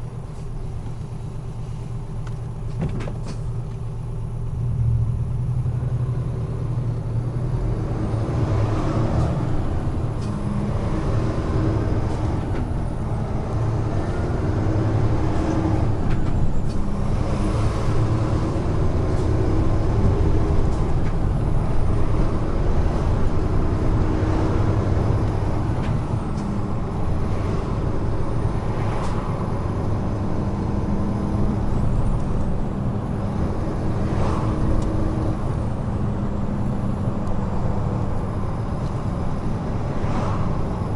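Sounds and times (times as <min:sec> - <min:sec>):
diesel truck engine drone: 0:00.0 - 0:40.9
tyre and road noise: 0:00.0 - 0:40.9.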